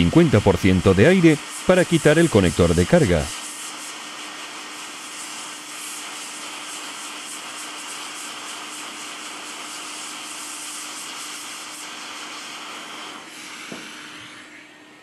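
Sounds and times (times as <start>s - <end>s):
hot-air blower hissing: 0.0s - 15.0s.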